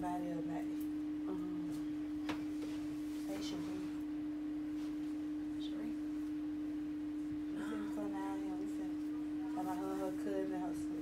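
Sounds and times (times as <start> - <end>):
faint room sounds: 0.0 - 11.0
steady pure tone: 0.0 - 11.0.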